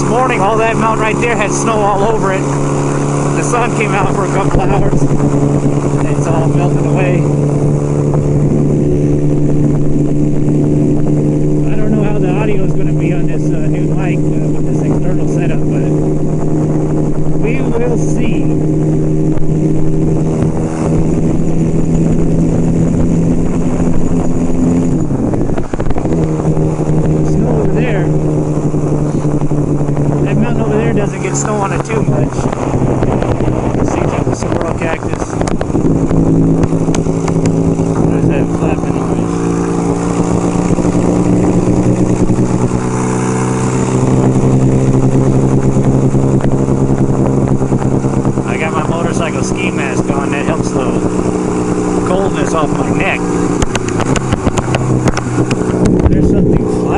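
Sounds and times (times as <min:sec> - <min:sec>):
motorcycle engine cruising: 0:00.0 - 0:56.9
wind noise on microphone: 0:00.0 - 0:56.9.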